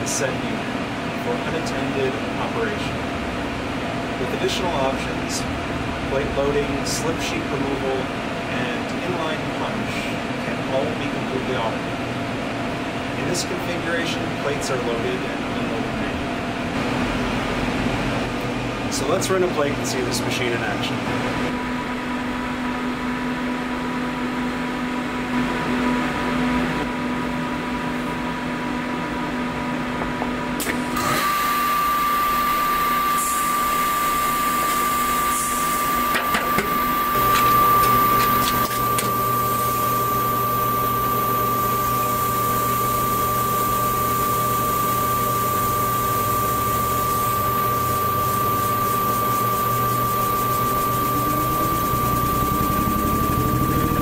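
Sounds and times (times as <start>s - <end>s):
high machine whine: 0.0s - 54.0s
machine hum: 0.0s - 54.0s.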